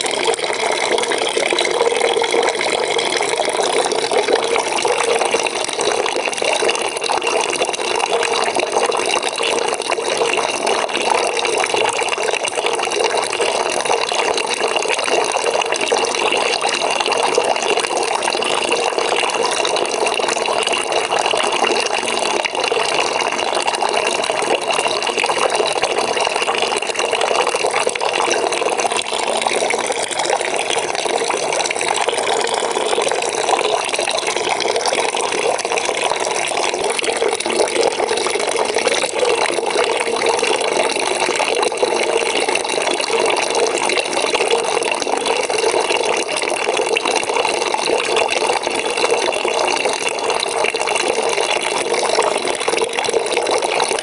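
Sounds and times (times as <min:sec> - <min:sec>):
water pouring into a bucket: 0:00.0 - 0:54.0.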